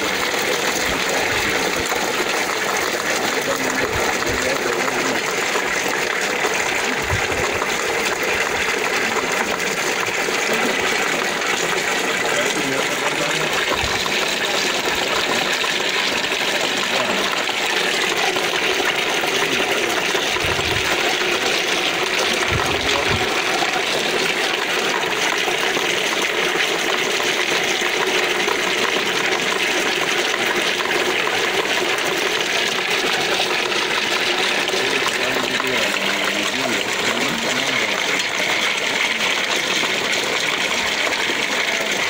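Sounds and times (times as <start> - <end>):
water rushing through pulper: 0.0 - 42.0.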